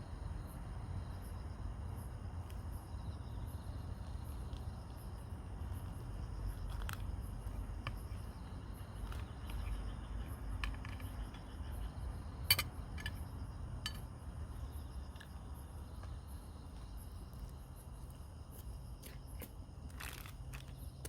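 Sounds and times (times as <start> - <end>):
insects chirping: 0.0 - 21.0
low outdoor rumble: 0.0 - 21.0.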